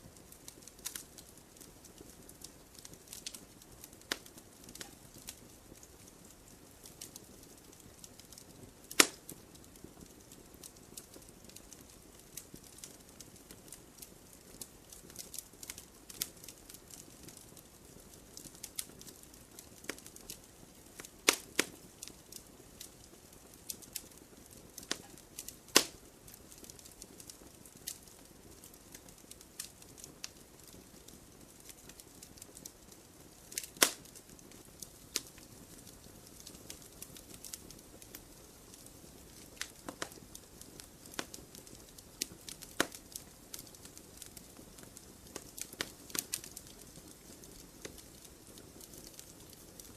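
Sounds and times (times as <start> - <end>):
campfire crackling: 0.0 - 49.9
sharp pops of fire: 0.2 - 49.9.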